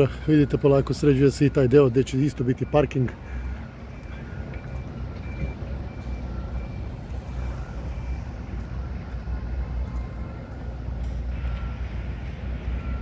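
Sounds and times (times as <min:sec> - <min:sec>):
continuous low rumble: 0:00.0 - 0:13.0
reversing alarms beeping: 0:00.0 - 0:13.0.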